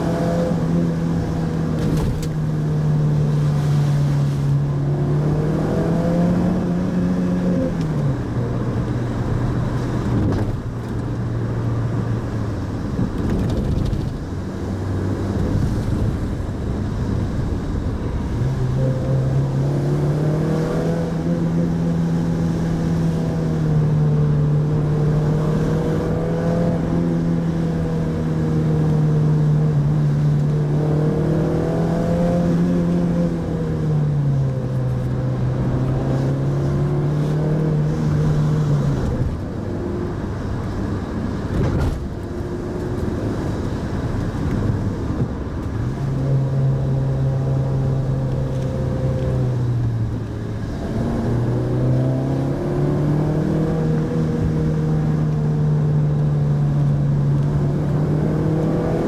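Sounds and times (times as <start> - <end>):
car engine while driving: 0.0 - 59.0
road noise: 0.0 - 59.0.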